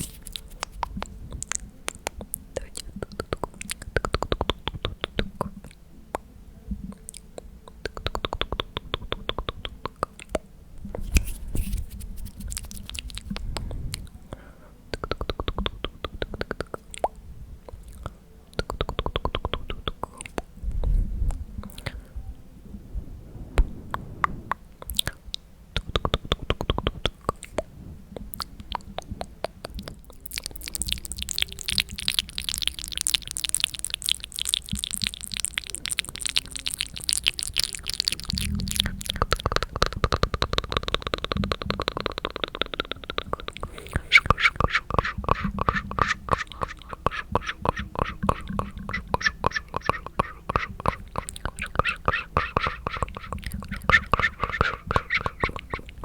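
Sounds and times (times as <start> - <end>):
whispering: 0.0 - 5.8, 6.6 - 17.0, 17.6 - 56.0
tongue and lip clicks: 0.0 - 22.0, 23.6 - 56.0.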